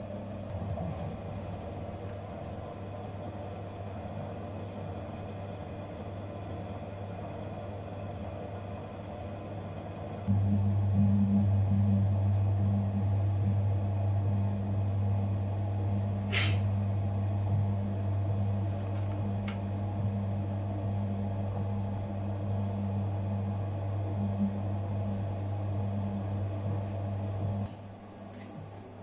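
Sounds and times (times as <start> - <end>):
dough mixer humming: 0.0 - 29.0.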